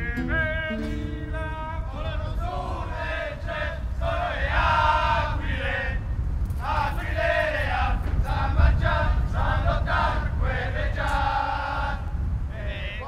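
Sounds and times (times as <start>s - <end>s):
men chanting in unison: 1.6s - 13.0s.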